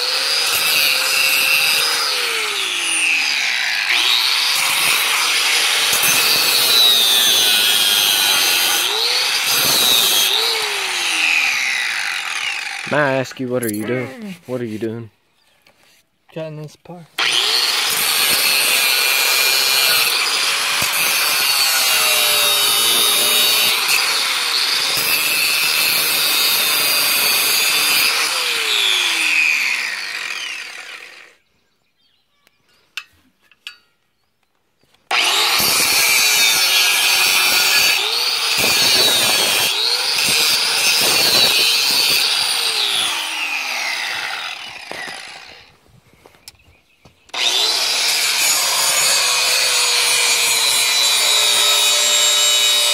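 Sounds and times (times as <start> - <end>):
angle grinder cutting metal pipe: 0.0 - 13.9, 17.2 - 31.4, 35.1 - 45.7, 47.3 - 52.9.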